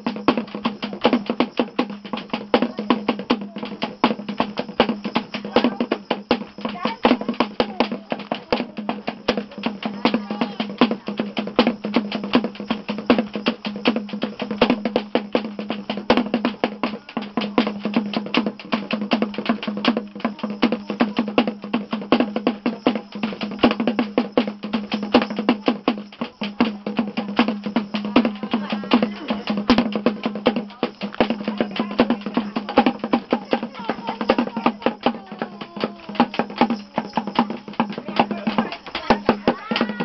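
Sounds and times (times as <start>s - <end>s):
quick percussive strikes: 0.0s - 40.0s.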